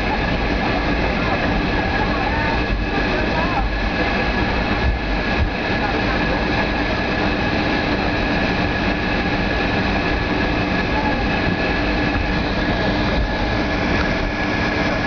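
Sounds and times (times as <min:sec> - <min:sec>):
aircraft cabin rumble: 0:00.0 - 0:15.0
jet engine whine: 0:00.0 - 0:15.0.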